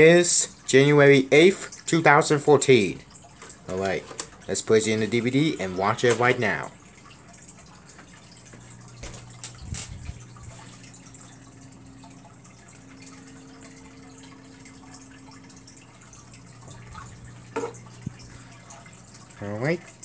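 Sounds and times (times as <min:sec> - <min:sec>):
low steady hum: 0:00.0 - 0:20.0
water trickling from filter: 0:00.0 - 0:20.0.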